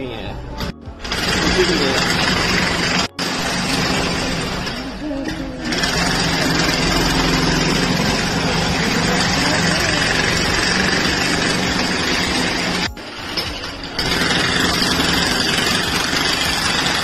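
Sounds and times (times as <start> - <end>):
small engine running: 1.0 - 17.0.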